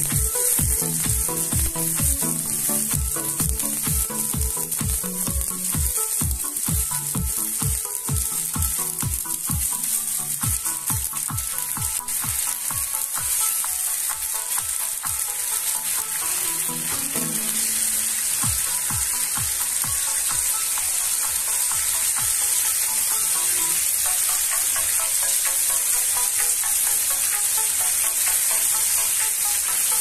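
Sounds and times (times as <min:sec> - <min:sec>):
background music with beat: 0:00.0 - 0:30.0
seeds sizzling and bubbling: 0:00.0 - 0:30.0.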